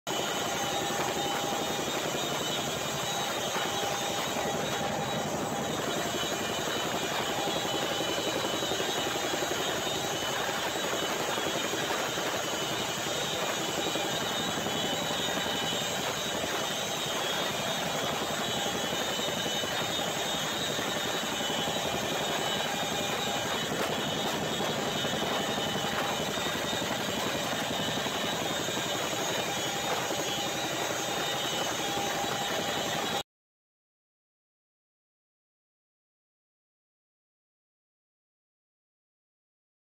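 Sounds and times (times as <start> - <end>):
helicopter rotors and engines: 0.1 - 33.2.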